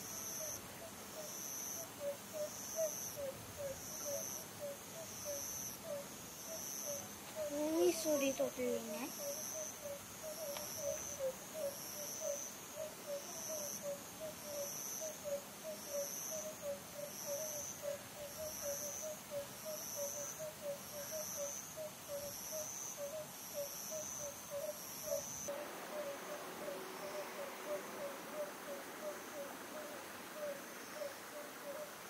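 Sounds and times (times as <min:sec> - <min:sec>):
insect chirping: 0:00.0 - 0:32.0
owl hooting: 0:00.2 - 0:08.0, 0:09.0 - 0:32.0.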